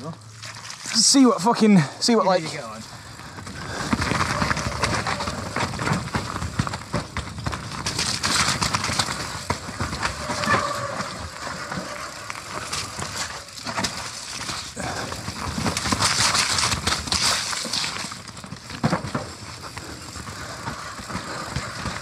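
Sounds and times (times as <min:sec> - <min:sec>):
bike rattling over bumps: 0:00.1 - 0:22.0
bike tyres churning over mud: 0:00.3 - 0:22.0.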